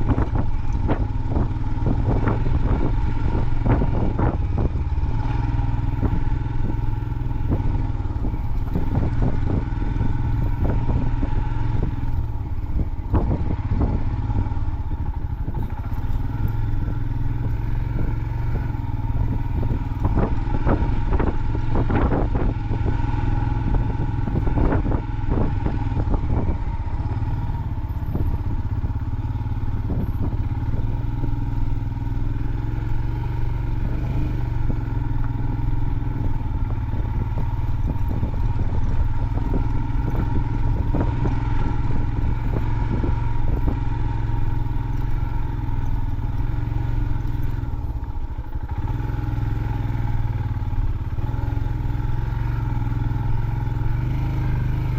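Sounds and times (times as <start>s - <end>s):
motorcycle engine at low speed: 0.0s - 54.9s.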